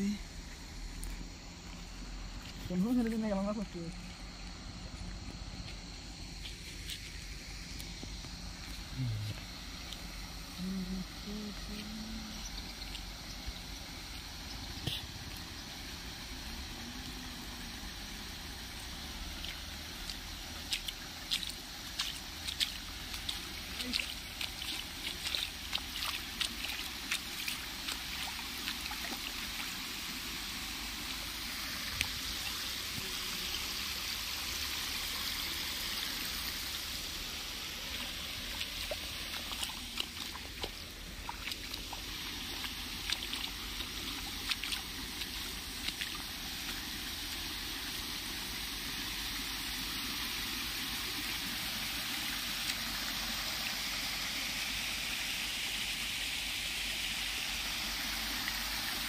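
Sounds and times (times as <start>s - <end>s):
water trickling over stones: 0.0s - 59.0s.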